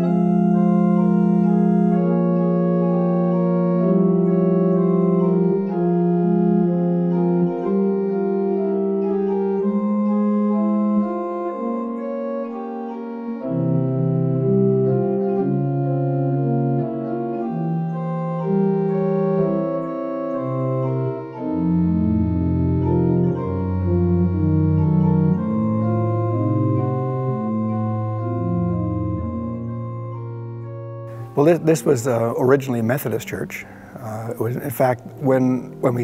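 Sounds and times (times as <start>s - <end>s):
deep organ pedal notes: 0.0s - 36.0s
organ chords: 0.0s - 36.0s.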